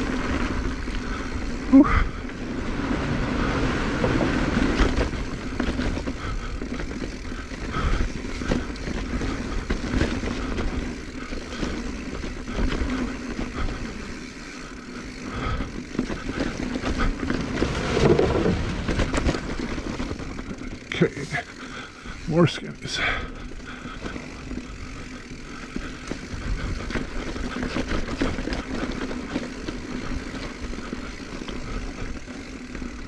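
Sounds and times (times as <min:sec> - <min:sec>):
bike rattling over bumps: 0:00.0 - 0:33.0
bike tyres rolling on dirt: 0:00.0 - 0:33.0.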